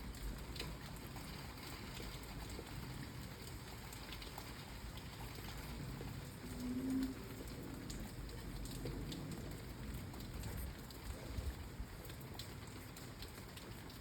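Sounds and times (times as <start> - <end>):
faint drips and patters: 0.0 - 14.0
steady rain falling: 0.0 - 14.0.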